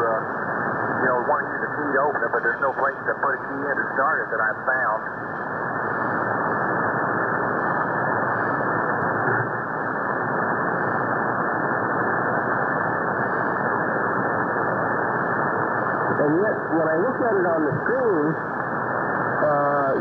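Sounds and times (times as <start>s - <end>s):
shortwave radio static hiss: 0.0s - 20.0s.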